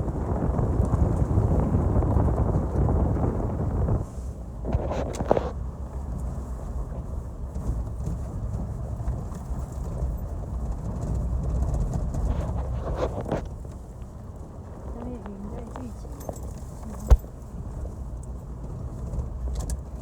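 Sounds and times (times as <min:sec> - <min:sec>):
off-road vehicle rumbling on gravel: 0:00.0 - 0:20.0.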